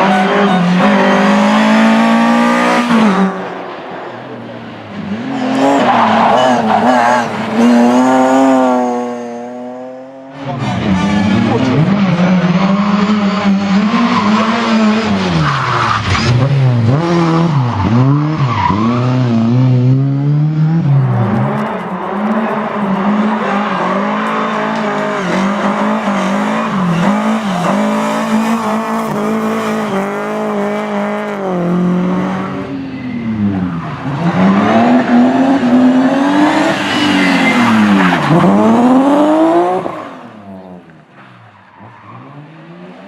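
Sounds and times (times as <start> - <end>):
rally car engine revving: 0.0 - 41.1.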